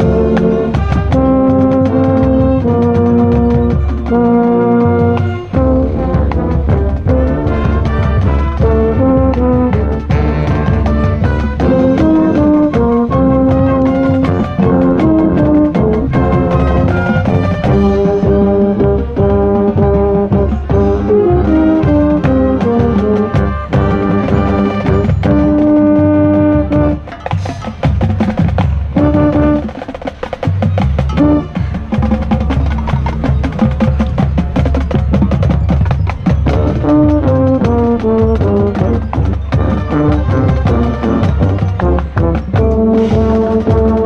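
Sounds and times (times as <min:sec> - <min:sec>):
loud close horn: 0:00.0 - 0:27.2, 0:29.0 - 0:29.7, 0:36.5 - 0:44.0
brass playing falling notes: 0:00.0 - 0:28.0, 0:28.8 - 0:30.0, 0:31.0 - 0:35.4, 0:36.4 - 0:44.0
drums with rapid strokes: 0:00.0 - 0:44.0
marching band playing: 0:00.0 - 0:44.0.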